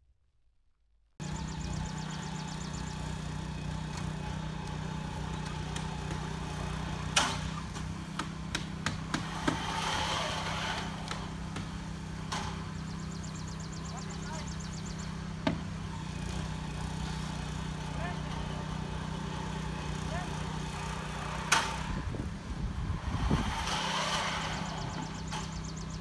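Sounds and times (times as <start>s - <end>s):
engine hum: 1.2s - 26.0s.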